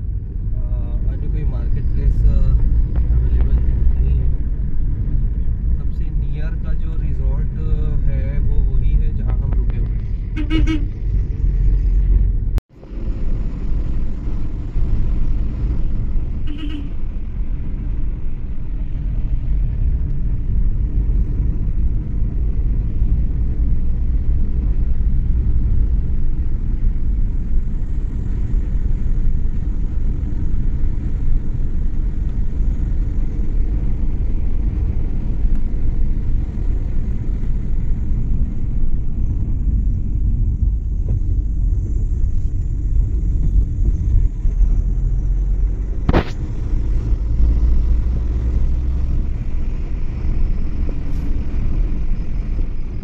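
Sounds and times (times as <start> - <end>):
car road rumble from inside: 0.0 - 53.0.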